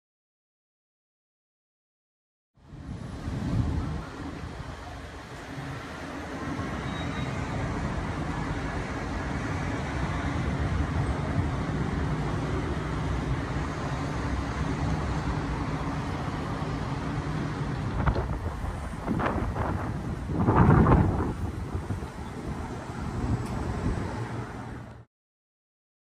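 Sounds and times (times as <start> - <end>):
vehicle engines rumbling: 2.6 - 25.1.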